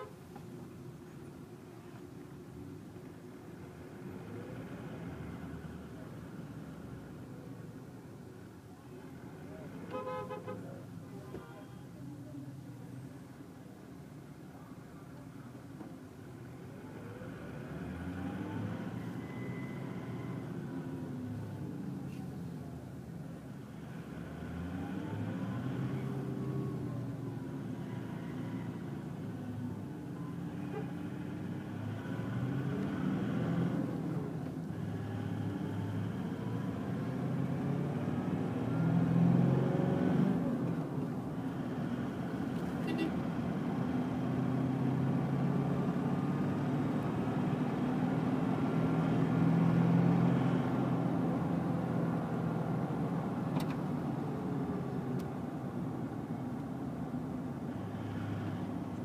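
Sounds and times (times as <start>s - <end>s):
idling car engines in traffic: 0.0s - 59.0s.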